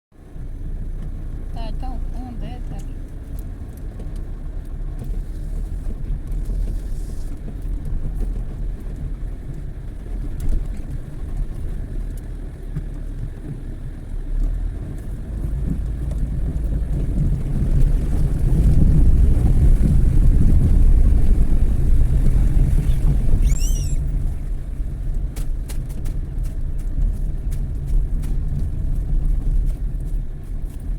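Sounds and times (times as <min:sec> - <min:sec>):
car engine rumbling: 0:00.1 - 0:30.9.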